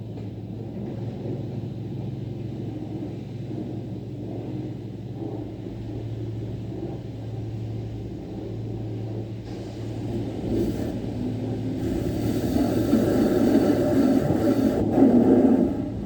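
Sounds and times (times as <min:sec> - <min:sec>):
low mechanical hum and rumble: 0:00.0 - 0:16.0.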